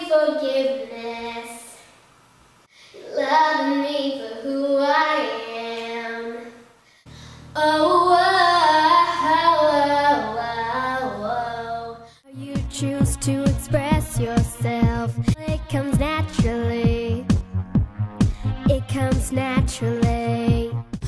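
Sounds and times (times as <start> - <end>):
girl singing unaccompanied: 0.0 - 1.9, 2.9 - 6.7, 7.5 - 17.4, 18.5 - 21.0.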